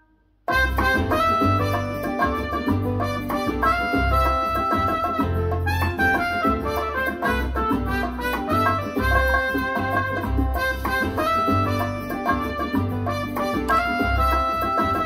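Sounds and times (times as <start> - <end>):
brass music through loudspeaker: 0.5 - 15.0
stepping bass line: 0.5 - 15.0.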